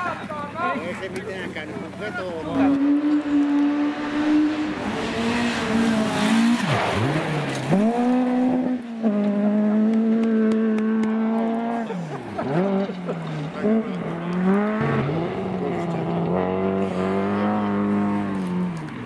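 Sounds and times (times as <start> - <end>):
rally car engine revving: 2.3 - 19.0.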